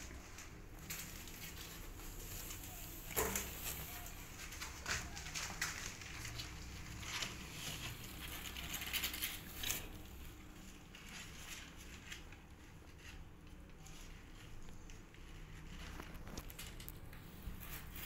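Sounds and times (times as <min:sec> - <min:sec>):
rustling on cardboard: 0:00.0 - 0:18.0.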